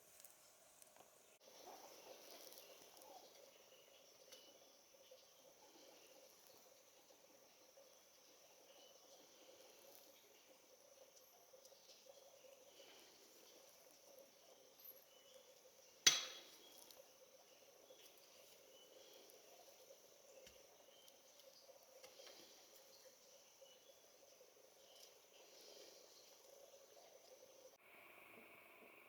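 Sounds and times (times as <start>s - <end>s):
faint insect chorus: 0.0s - 29.0s.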